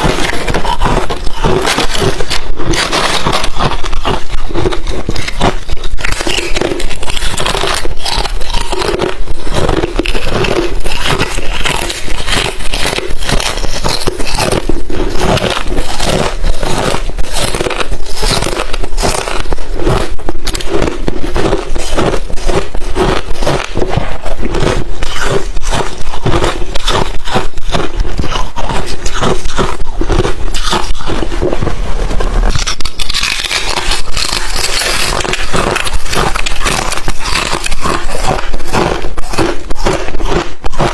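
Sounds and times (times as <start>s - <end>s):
ice chips being chewed: 0.0s - 40.9s.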